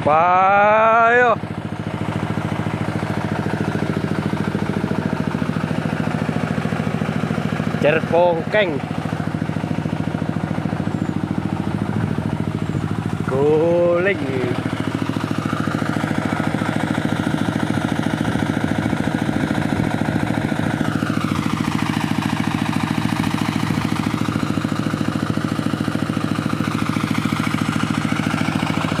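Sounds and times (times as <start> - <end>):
engine idling with chugging: 0.0 - 29.0.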